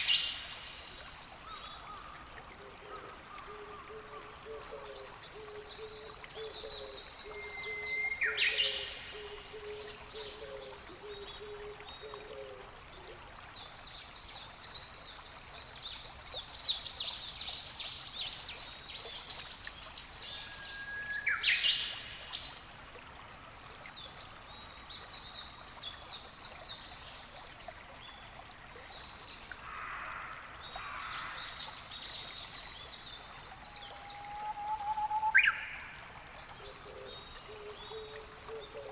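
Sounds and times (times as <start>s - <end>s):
faint water: 0.0s - 38.9s.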